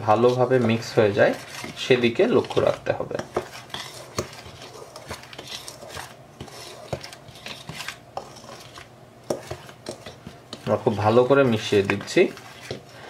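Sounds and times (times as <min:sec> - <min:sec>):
spoon scraping powder in bowl: 0:00.0 - 0:13.0.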